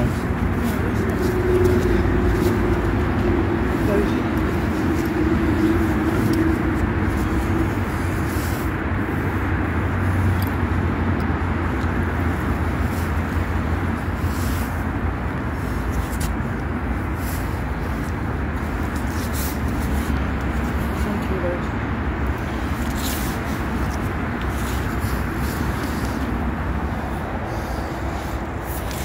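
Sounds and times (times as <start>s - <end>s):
busy road traffic rumbling: 0.0s - 29.0s.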